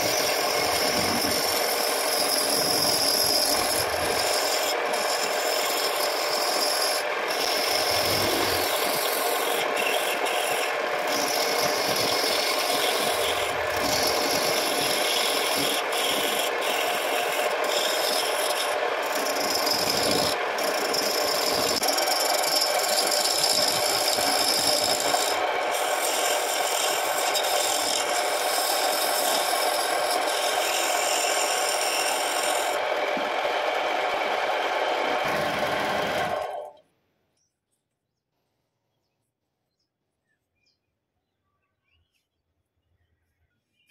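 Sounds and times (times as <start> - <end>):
gouge scraping wood on lathe: 0.0 - 36.7
lathe running: 0.0 - 36.7.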